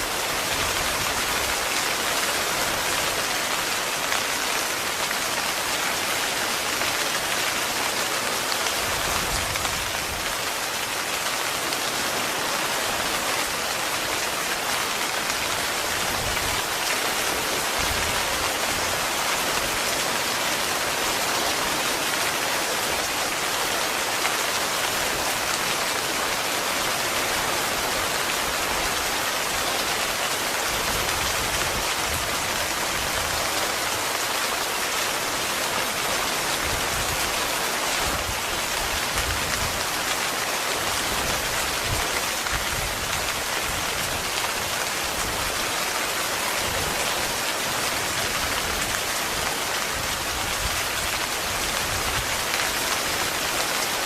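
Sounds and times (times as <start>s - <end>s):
heavy rain on tent fabric: 0.0s - 54.0s.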